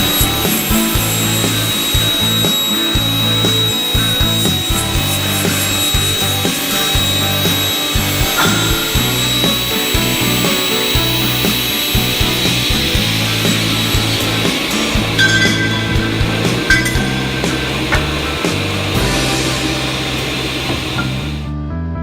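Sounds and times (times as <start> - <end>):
circular saw machine whine: 0.0 - 21.5.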